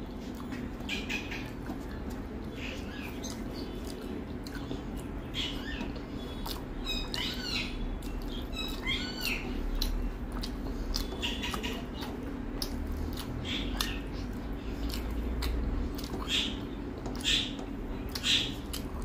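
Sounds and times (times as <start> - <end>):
fingers squishing through rice: 0.0 - 19.0
wet chewing and lip smacks: 0.0 - 19.0.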